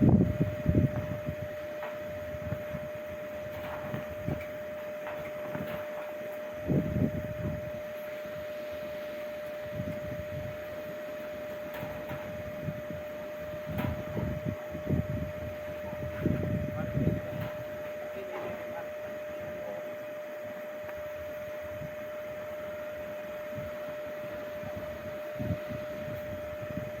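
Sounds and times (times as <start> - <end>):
strong wind gusting: 0.0 - 18.0, 21.0 - 27.0
steady high whine: 0.0 - 27.0
wind buffeting microphone: 0.0 - 27.0.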